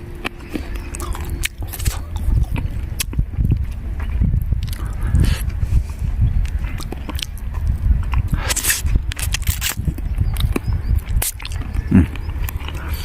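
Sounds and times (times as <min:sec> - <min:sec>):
person chewing and crunching bones: 0:00.0 - 0:13.0
steady low rumble: 0:00.0 - 0:13.0.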